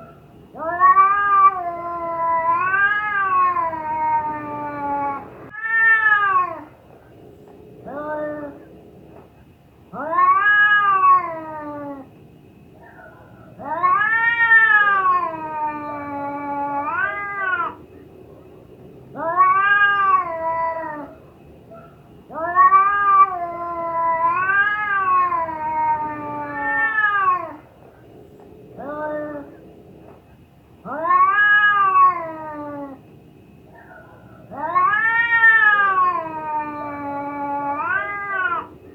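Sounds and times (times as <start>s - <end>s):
cat yowling: 0.0s - 6.8s, 7.8s - 8.7s, 9.9s - 12.1s, 12.8s - 17.8s, 19.1s - 27.7s, 28.7s - 29.6s, 30.8s - 33.0s, 33.7s - 38.8s.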